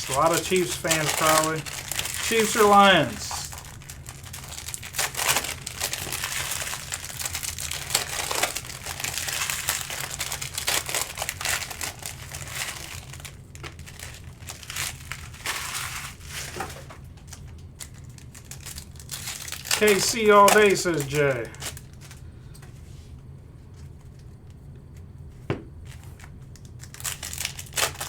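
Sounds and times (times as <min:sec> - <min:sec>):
card pack wrappers crinkling: 0:00.0 - 0:22.2, 0:25.9 - 0:28.0
faint steady hum: 0:00.0 - 0:28.0.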